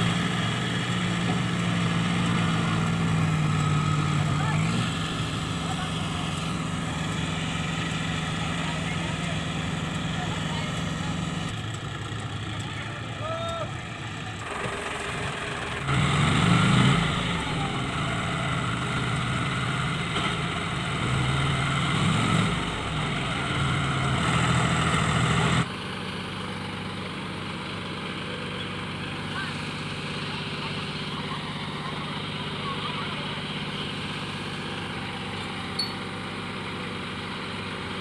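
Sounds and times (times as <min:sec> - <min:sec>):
tractor diesel engine revving: 0:00.0 - 0:38.0.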